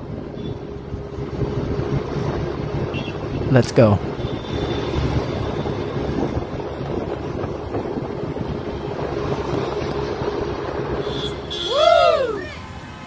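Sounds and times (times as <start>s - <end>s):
wind rushing over microphone: 0.0s - 11.9s
vehicle road and engine noise: 0.0s - 13.0s.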